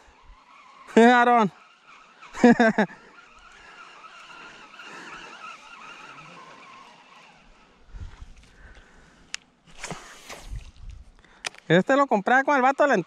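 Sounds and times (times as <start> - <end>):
fishing reel whirring: 0.0 - 11.6.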